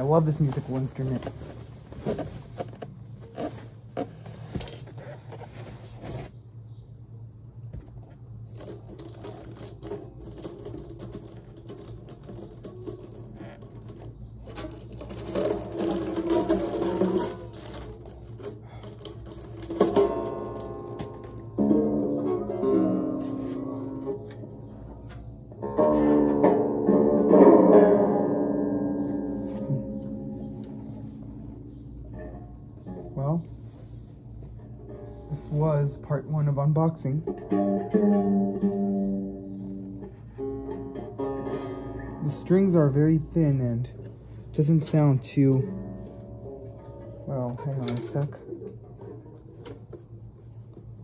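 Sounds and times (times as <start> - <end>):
banjo handling noise: 9.8 - 51.0.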